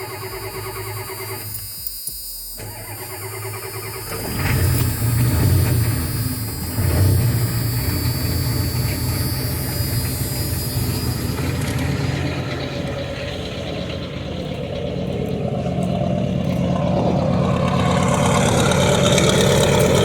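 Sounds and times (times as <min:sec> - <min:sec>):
diesel engine running: 0:00.0 - 0:20.0
engine starter cranking: 0:00.0 - 0:20.0.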